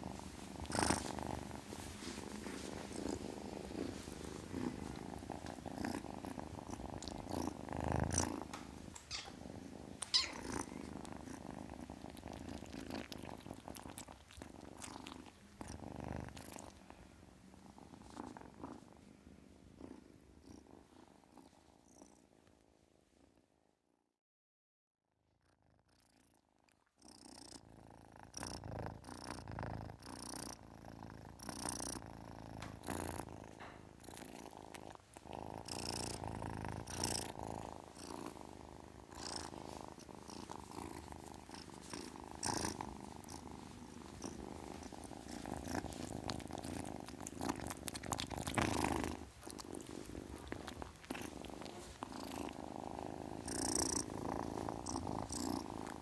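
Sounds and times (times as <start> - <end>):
kitten purring: 0.0 - 23.6, 25.3 - 56.0.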